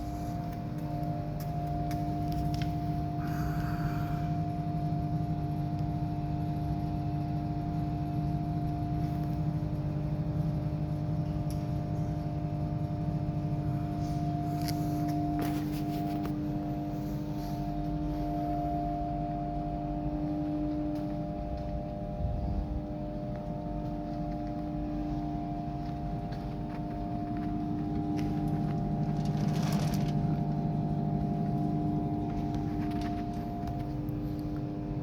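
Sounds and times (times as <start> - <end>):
stove blower fan humming: 0.0 - 35.0.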